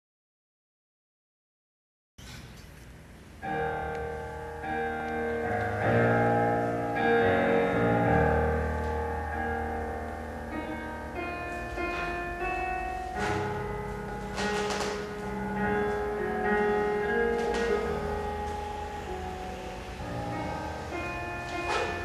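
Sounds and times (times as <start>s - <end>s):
classical piano music: 3.4s - 22.0s.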